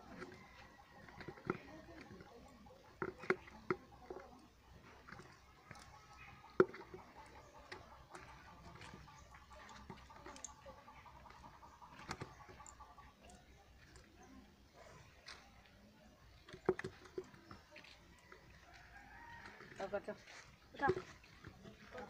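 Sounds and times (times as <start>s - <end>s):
taps and clicks of handling fish: 0.0s - 14.4s, 16.3s - 19.7s, 20.7s - 22.0s.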